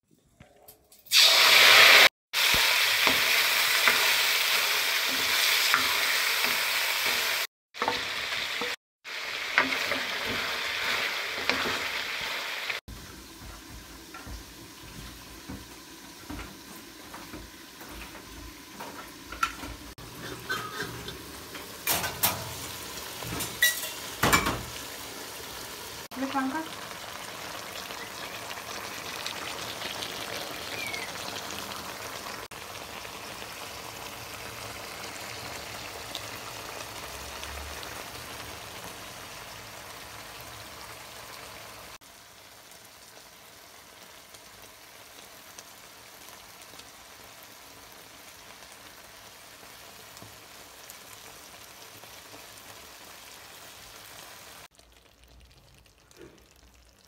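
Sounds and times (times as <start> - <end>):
meat frying sizzling hiss: 1.1 - 57.0.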